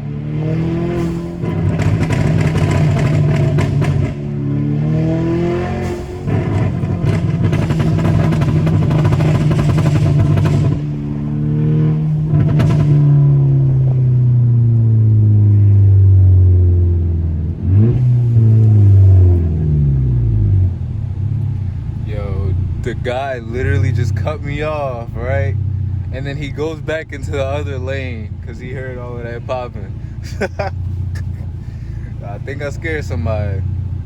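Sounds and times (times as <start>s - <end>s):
car engine accelerating: 0.0s - 34.0s
exhaust pops and crackles: 0.5s - 14.9s, 17.4s - 34.0s.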